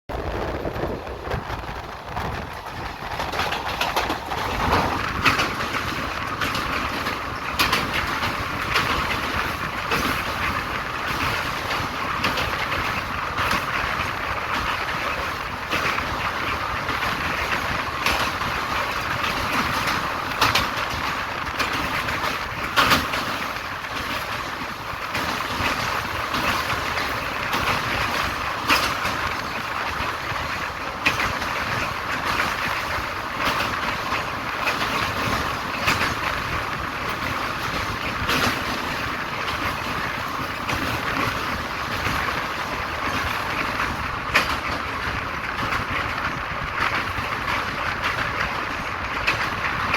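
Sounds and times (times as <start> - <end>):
train rolling rumble: 0.0 - 49.9
wheels clicking over rail joints: 0.1 - 49.9.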